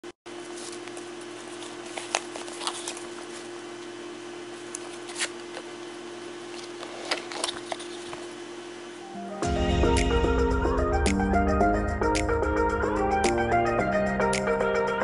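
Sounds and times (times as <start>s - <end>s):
background hum and hiss: 0.3s - 15.0s.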